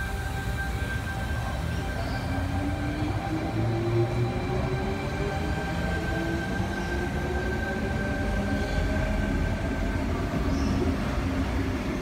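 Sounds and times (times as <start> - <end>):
train high whine: 0.0 - 12.0.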